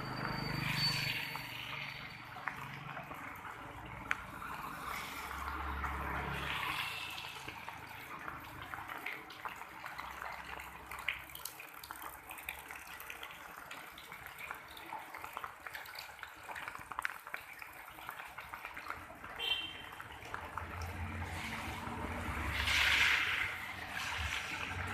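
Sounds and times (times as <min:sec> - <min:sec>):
rain falling and splashing: 0:00.0 - 0:24.9.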